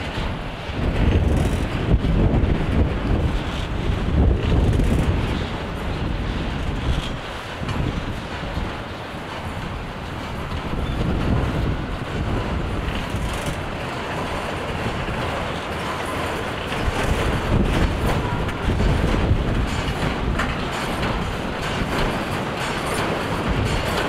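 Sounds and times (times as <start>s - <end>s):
train wheels rumbling on rails: 0.0s - 24.0s
wheels clicking over rail joints: 0.0s - 24.0s.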